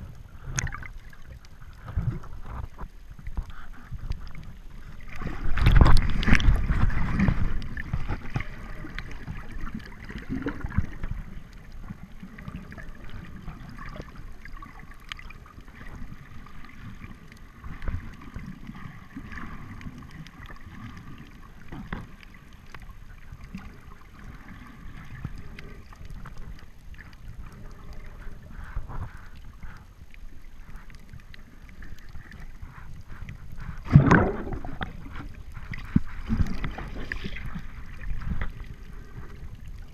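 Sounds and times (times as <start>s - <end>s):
faint underwater clicks: 0.0s - 39.9s
low rush of moving water: 0.0s - 39.9s
underwater sloshing and gurgling: 0.0s - 39.9s.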